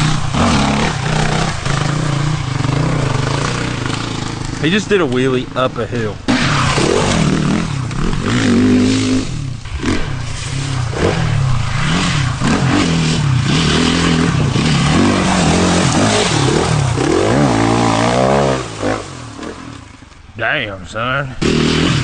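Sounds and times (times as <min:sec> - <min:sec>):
dirt bike engine revving: 0:00.0 - 0:20.4, 0:21.3 - 0:22.0.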